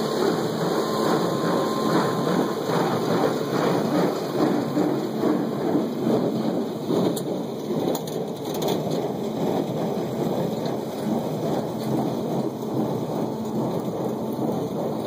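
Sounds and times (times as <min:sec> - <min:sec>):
tractor and baler rumbling: 0:00.0 - 0:15.0.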